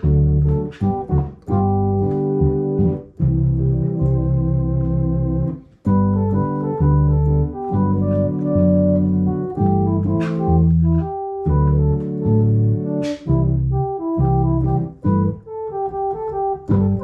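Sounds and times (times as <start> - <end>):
electronic organ chords: 0.0 - 17.0.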